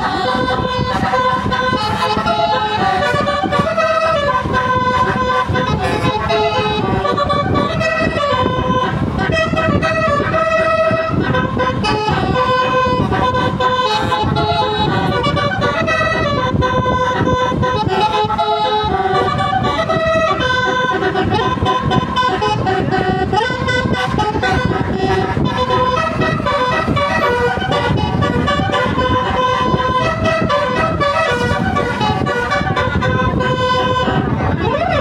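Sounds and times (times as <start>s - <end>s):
musical air horn playing tune: 0.0s - 35.0s.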